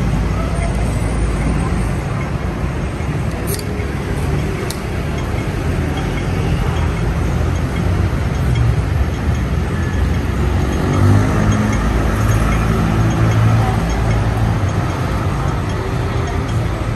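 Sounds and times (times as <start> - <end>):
vehicle engines in traffic: 0.0 - 16.9.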